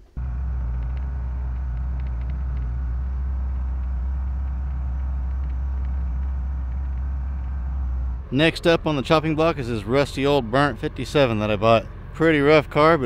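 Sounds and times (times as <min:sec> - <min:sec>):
heavy equipment engine drone: 0:00.0 - 0:13.0.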